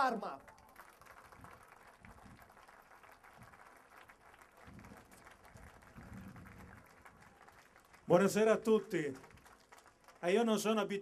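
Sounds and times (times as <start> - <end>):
faint scattered applause: 0.0 - 11.0.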